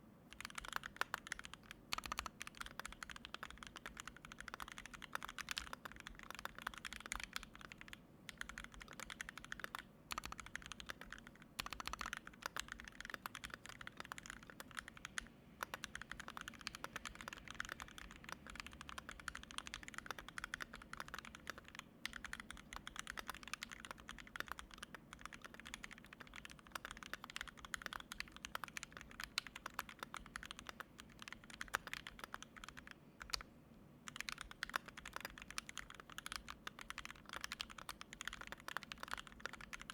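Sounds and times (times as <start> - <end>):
mechanical keyboard typing: 0.3 - 33.5, 34.1 - 39.9.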